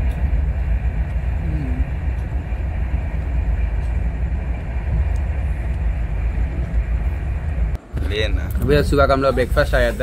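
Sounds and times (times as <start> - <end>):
train rumbling at speed: 0.0 - 10.0.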